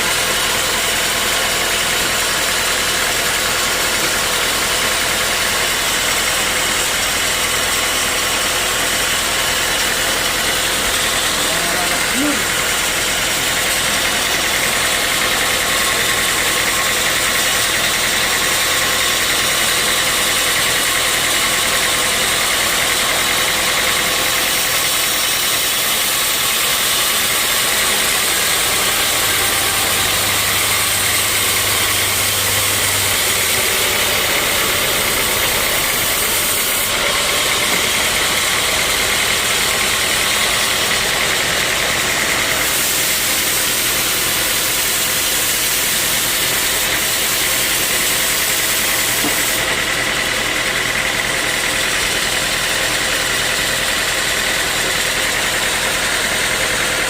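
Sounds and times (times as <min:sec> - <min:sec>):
sawmill saw and engine running: 0:00.0 - 0:57.0.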